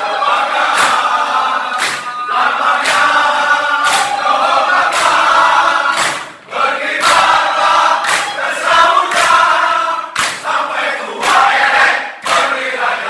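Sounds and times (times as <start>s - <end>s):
group of men singing a cheer: 0.0s - 13.0s
sharp claps keeping the beat: 0.0s - 13.0s.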